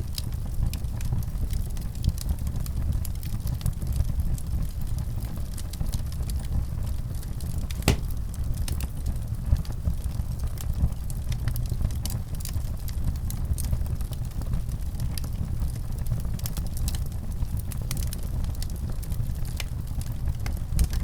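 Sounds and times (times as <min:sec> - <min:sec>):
fireplace burning with crackles: 0:00.0 - 0:21.0.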